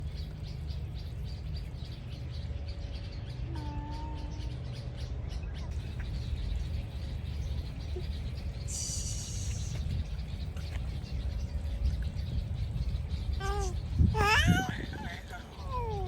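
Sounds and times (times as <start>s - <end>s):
low rumble: 0.0s - 16.0s
small birds chirping: 0.0s - 16.0s.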